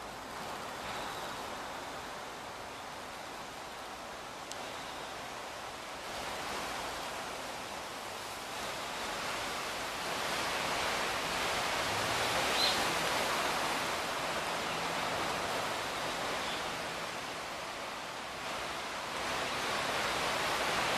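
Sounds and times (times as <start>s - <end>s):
rushing outdoor background noise: 0.0s - 20.9s.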